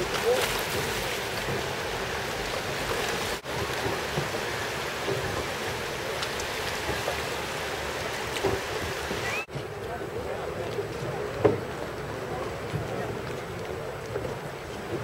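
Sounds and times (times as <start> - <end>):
small sea waves washing: 0.0 - 15.0.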